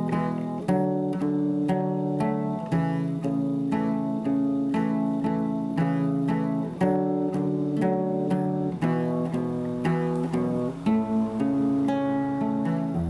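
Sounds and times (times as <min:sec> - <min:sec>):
plucked chords music: 0:00.0 - 0:13.0.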